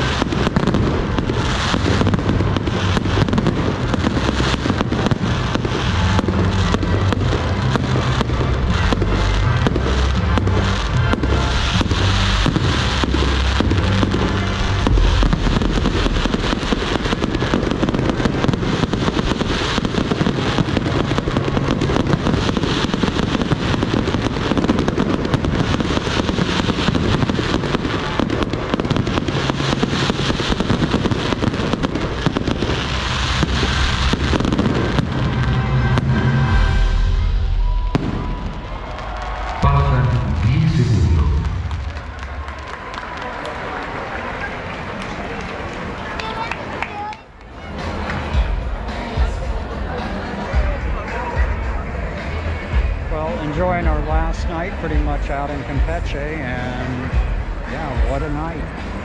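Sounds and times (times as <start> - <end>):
crackling rockets: 0.0 - 59.0.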